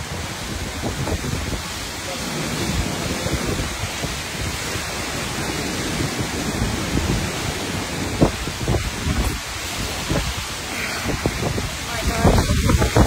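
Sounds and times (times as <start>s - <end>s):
hurricane wind and rain: 0.0s - 13.0s
wind buffeting microphone: 0.0s - 13.0s.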